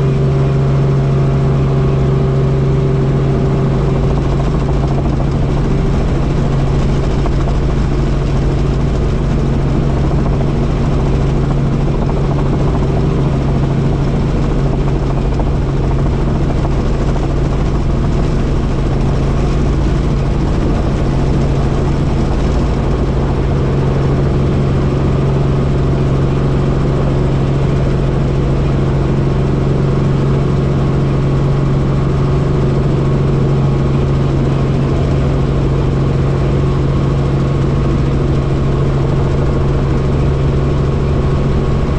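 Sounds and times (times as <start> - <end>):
helicopter engine and rotors droning: 0.0 - 41.9.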